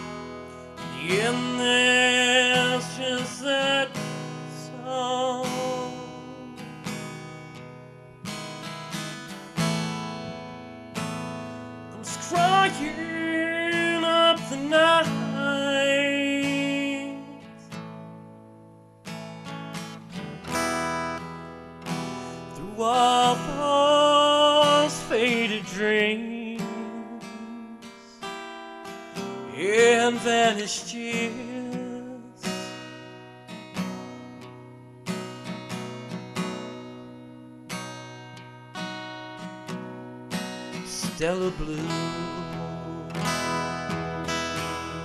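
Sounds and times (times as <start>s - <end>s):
acoustic guitar strumming chords: 0.0s - 45.0s.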